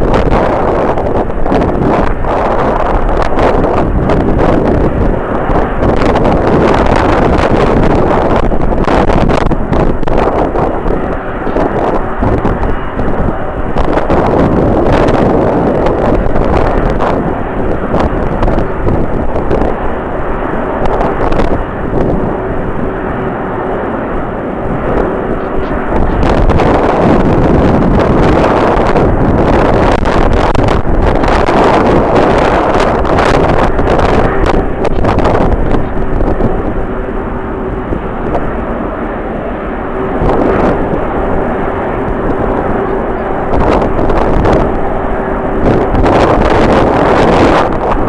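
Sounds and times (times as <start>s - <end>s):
jet engines running: 0.0s - 48.0s
wind buffeting microphone: 0.0s - 48.0s.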